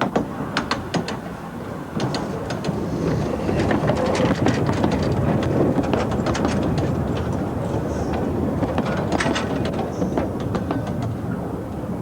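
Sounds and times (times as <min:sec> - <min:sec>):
steam train rumbling: 0:00.0 - 0:12.0.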